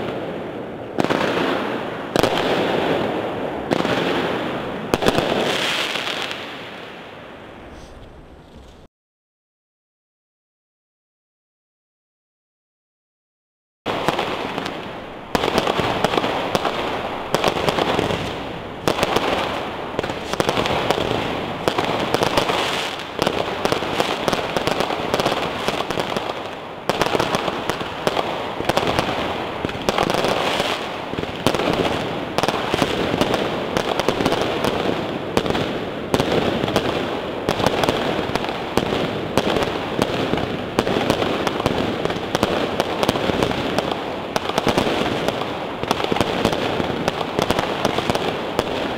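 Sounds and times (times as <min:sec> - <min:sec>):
fireworks launches and bangs: 0:00.0 - 0:08.9, 0:13.9 - 0:48.9.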